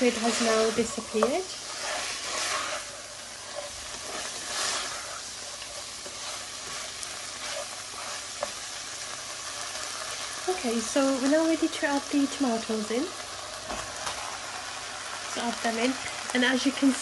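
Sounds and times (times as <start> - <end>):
meat and onions sizzling: 0.0 - 17.0.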